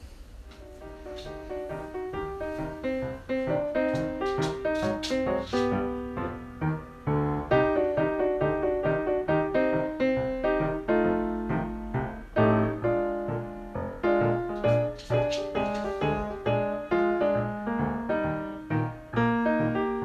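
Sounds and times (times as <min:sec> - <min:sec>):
gentle piano music: 0:00.4 - 0:20.0.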